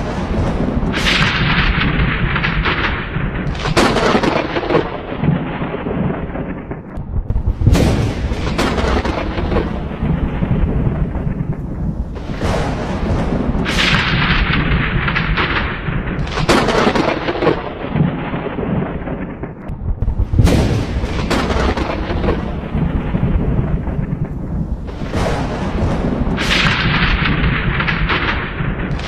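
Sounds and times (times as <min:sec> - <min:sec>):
crackling thunder peals: 0:00.0 - 0:29.0
thunder rumbling: 0:00.0 - 0:29.0.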